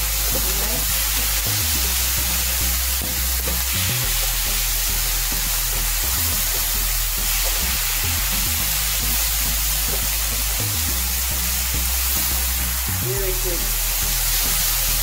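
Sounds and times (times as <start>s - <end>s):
background music: 0.0s - 15.0s
meat sizzling in a frying pan: 0.0s - 15.0s.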